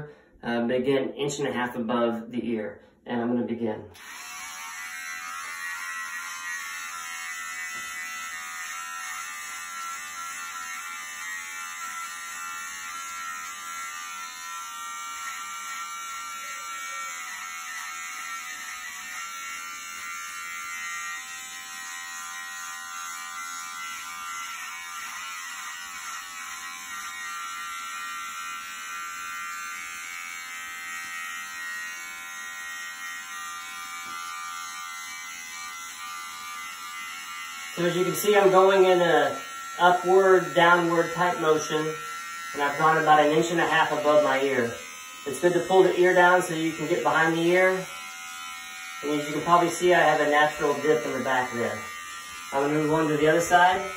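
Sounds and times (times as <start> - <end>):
electric trimmer buzzing: 3.9 - 53.9.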